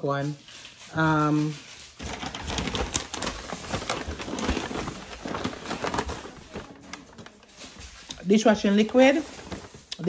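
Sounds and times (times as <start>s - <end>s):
shopping bag rustling: 0.0s - 10.0s.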